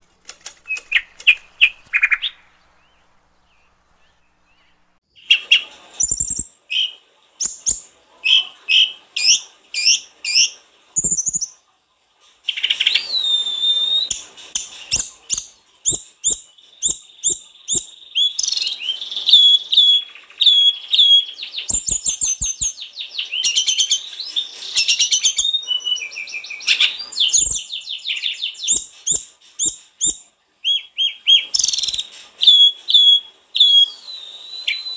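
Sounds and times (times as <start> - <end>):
songbird whistling and trilling: 0.6 - 11.6, 12.5 - 34.9.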